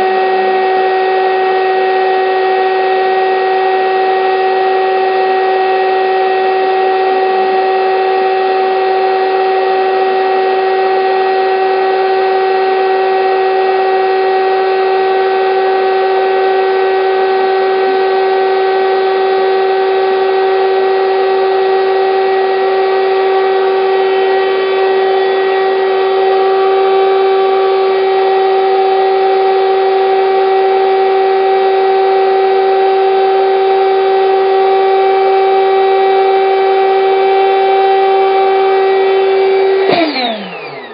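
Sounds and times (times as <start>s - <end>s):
air pump motor hum: 0.0s - 40.9s.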